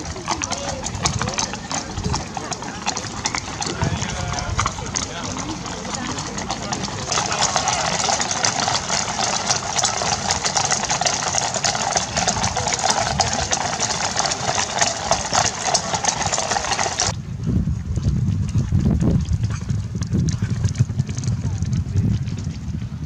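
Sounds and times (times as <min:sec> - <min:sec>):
horse hooves clattering on bricks: 0:00.0 - 0:17.2, 0:18.0 - 0:23.0
low rumble: 0:00.0 - 0:23.0.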